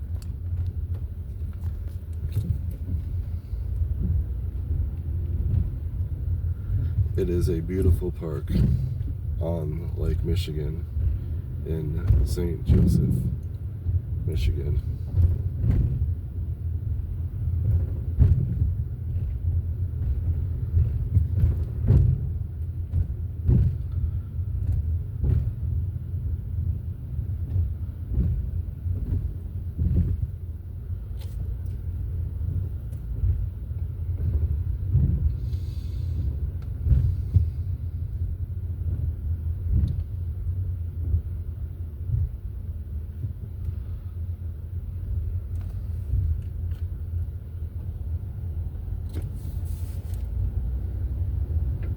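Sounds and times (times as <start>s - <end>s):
car driving rumble inside cabin: 0.0s - 51.9s.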